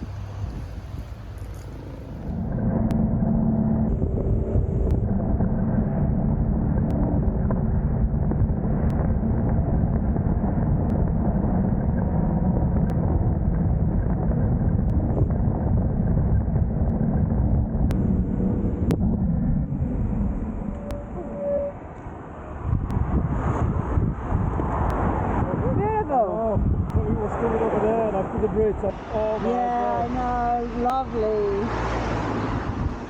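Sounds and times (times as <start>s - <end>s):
wind and road noise on microphone: 0.0s - 33.0s.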